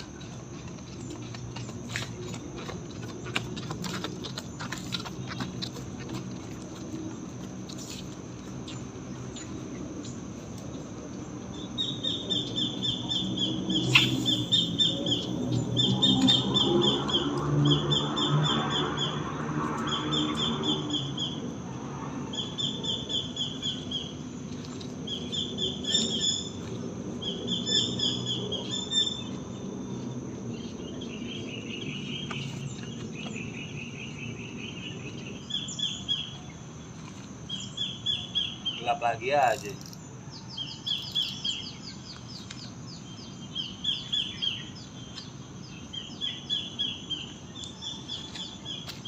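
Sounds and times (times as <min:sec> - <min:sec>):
high insect drone: 0:00.0 - 0:49.0
low distant hum: 0:00.0 - 0:49.0.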